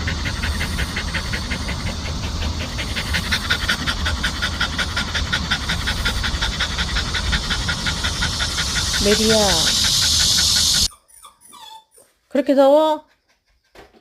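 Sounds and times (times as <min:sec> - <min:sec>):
dog panting rapidly: 0:00.0 - 0:11.0, 0:13.0 - 0:14.0.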